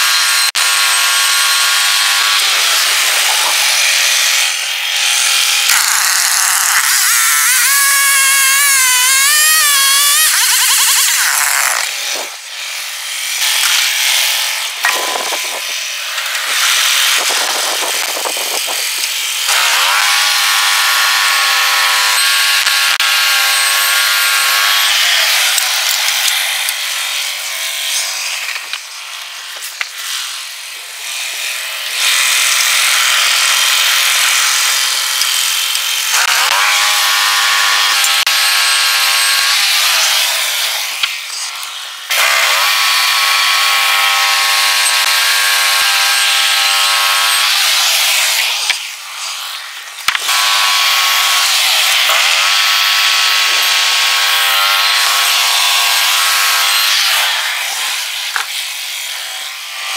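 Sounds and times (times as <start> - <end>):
bandsaw mill engine revving: 0.0 - 58.5
band blade cutting log: 0.0 - 59.9.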